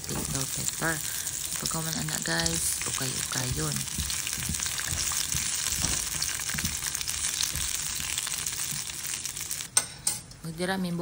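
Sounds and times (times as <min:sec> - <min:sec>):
peppers sizzling in oil: 0:00.0 - 0:09.8
spatula stirring crackle: 0:00.0 - 0:09.8.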